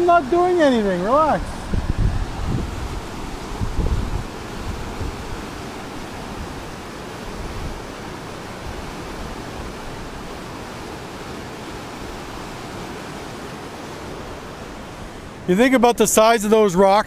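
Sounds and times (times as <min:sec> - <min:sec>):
waterfall whitewater rushing: 0:00.0 - 0:17.0.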